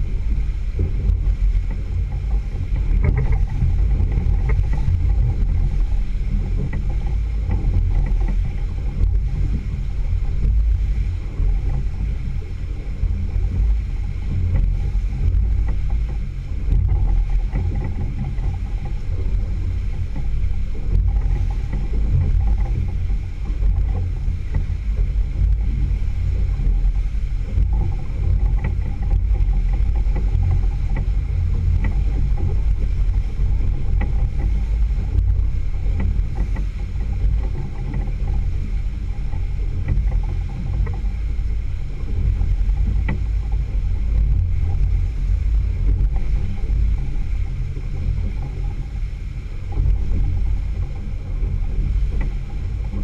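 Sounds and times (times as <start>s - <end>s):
outboard motor running: 0.0s - 53.0s
water rushing in wake: 0.0s - 53.0s.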